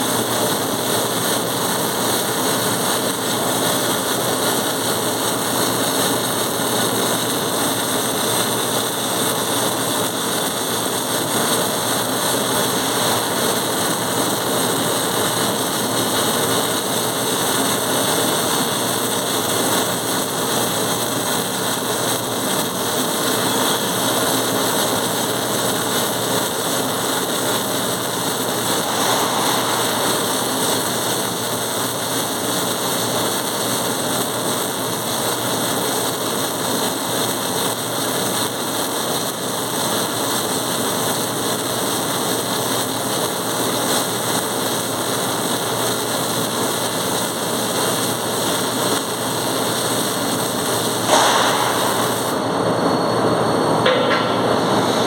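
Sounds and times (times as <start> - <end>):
welding arc hiss and crackle: 0.0 - 55.0.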